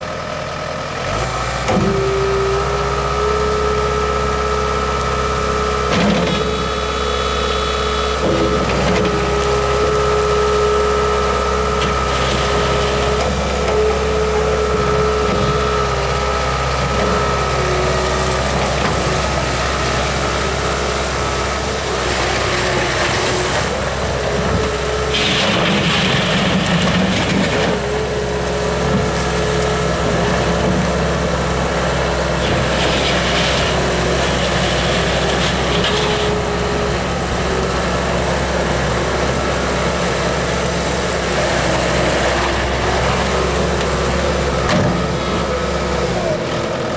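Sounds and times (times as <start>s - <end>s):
engine whine: 0.0s - 46.9s
loader diesel engine running: 0.0s - 46.9s.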